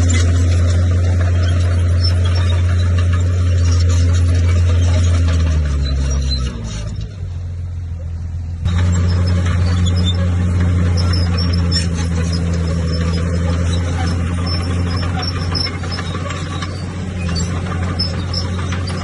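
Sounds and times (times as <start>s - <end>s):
heavy diesel machine droning: 0.0s - 19.0s.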